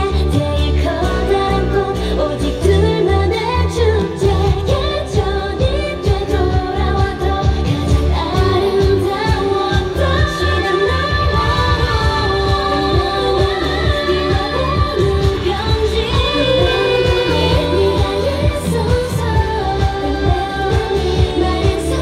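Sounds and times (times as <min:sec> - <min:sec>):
dance-pop song with female vocals: 0:00.0 - 0:22.0.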